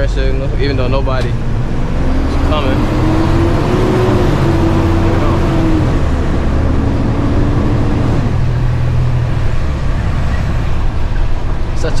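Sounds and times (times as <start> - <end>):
truck engine drone with whine: 0.0 - 12.0.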